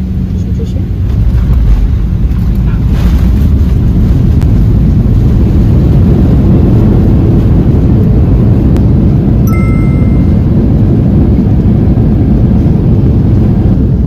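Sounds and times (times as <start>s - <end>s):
jet cabin engine roar: 0.0s - 14.0s.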